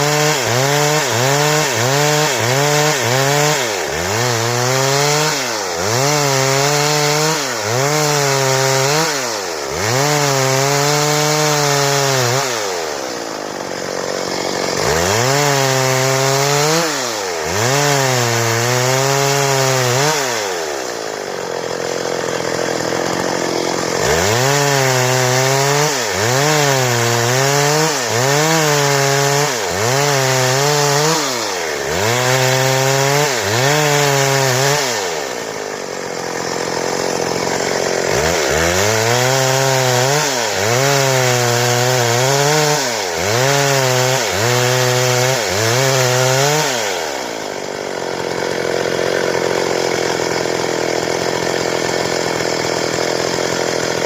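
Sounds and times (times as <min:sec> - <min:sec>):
chainsaw cutting boards: 0:00.0 - 0:54.0.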